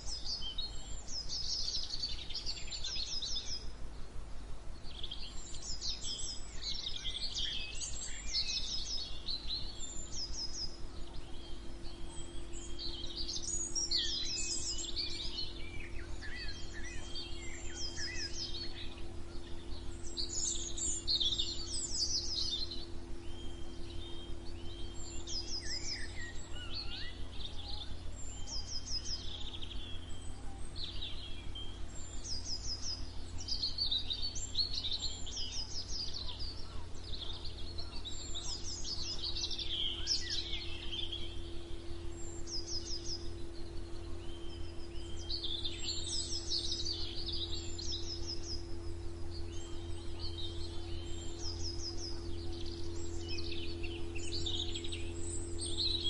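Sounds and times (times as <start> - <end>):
songbirds singing: 0.0 - 56.0
steady low hum: 0.0 - 56.0.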